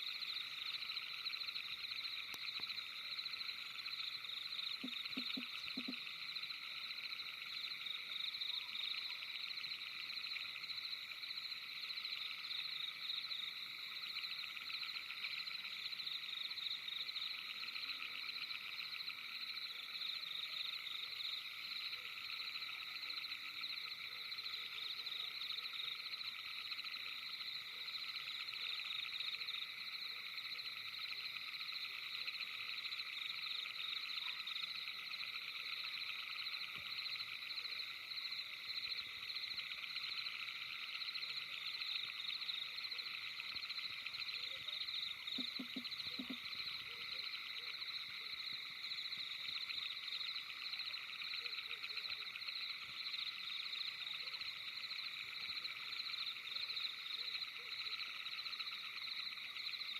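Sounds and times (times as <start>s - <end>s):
frogs calling: 0.0s - 59.9s.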